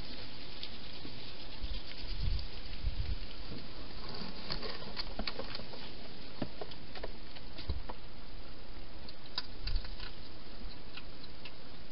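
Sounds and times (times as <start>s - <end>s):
steady hiss: 0.0s - 11.9s.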